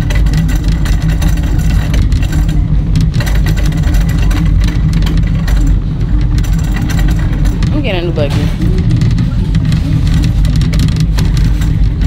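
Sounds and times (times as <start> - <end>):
shopping cart wheels rattling: 0.0 - 12.0.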